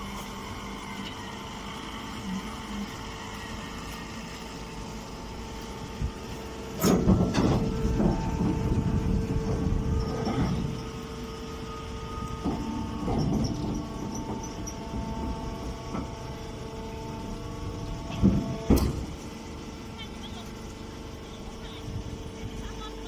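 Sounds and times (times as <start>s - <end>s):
rattling machine noise: 0.0s - 23.0s.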